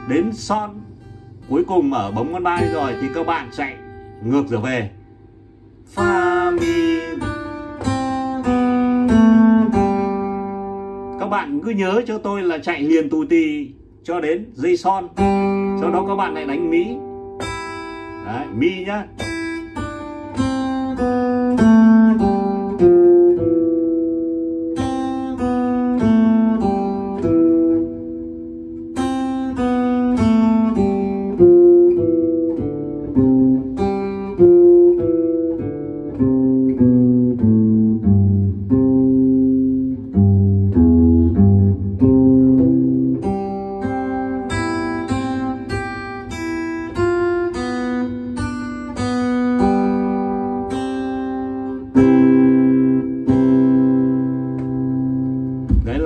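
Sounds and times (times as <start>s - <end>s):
fingerstyle acoustic guitar: 0.0s - 12.2s, 15.1s - 56.0s.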